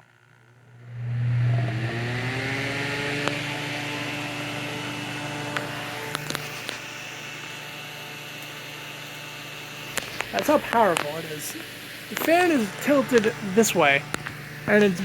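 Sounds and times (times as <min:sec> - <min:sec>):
fan motor hum and whir: 0:00.3 - 0:15.0.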